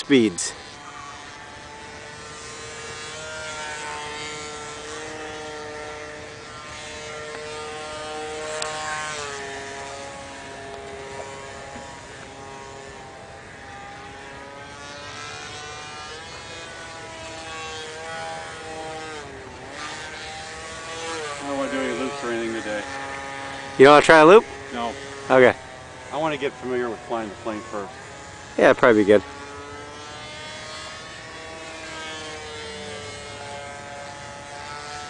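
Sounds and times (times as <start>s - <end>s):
model plane motor and propeller: 0.0s - 35.0s.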